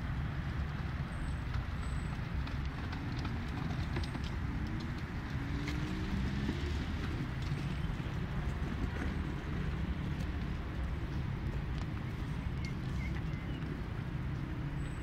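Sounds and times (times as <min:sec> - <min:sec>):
faint irregular clicks: 0:01.3 - 0:14.5
footsteps on paved path: 0:01.4 - 0:14.8.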